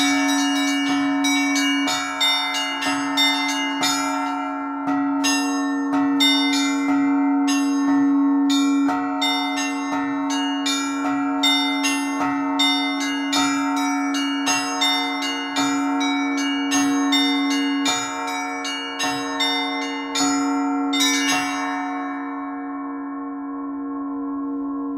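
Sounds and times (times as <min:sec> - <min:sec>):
large bell ringing: 0:00.0 - 0:24.9
small church bells striking: 0:00.0 - 0:24.9.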